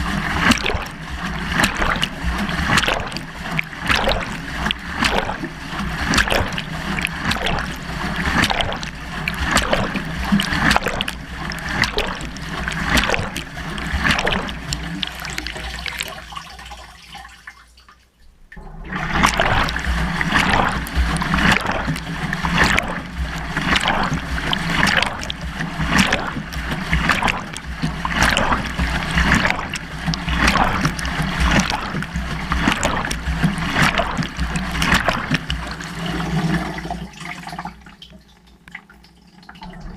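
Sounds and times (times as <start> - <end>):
water sloshing in washing machine drum: 0.0 - 39.9.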